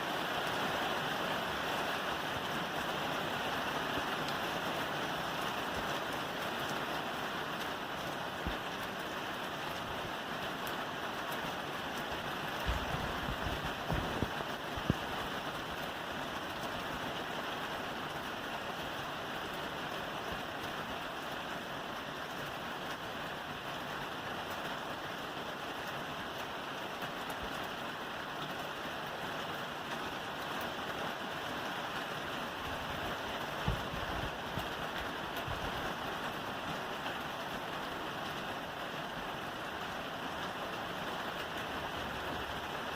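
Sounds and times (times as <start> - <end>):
rain falling on a roof: 0.0 - 42.9.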